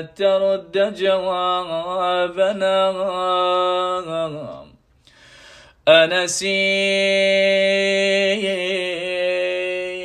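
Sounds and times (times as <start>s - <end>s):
man chanting: 0.0s - 4.8s, 5.9s - 10.0s.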